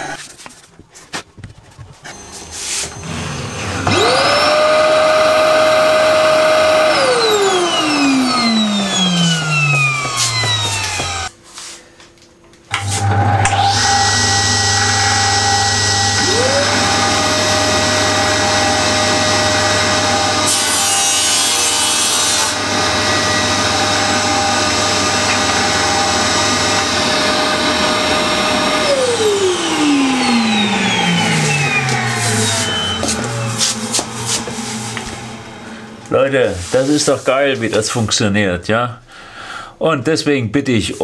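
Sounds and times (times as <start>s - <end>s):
dust extractor running: 2.0s - 11.3s, 12.7s - 37.3s
saw cutting: 2.0s - 11.3s, 12.7s - 37.9s
table saw whine: 2.0s - 11.3s, 12.8s - 37.4s.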